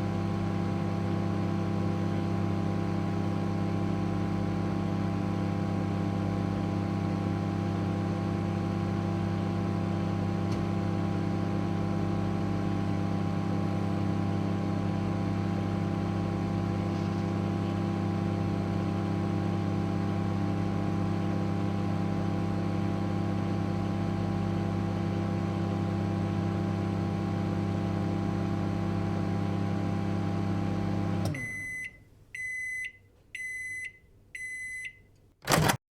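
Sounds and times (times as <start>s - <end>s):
microwave oven humming: 0.0s - 35.8s.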